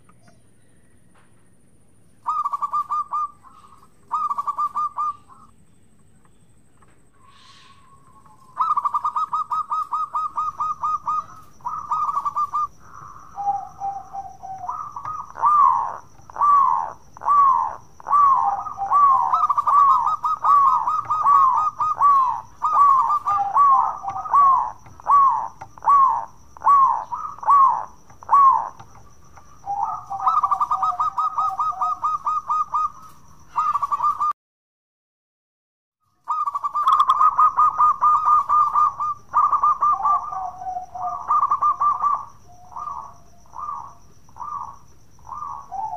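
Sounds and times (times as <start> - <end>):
dove cooing: 2.2 - 5.5, 7.2 - 34.3, 36.2 - 45.9.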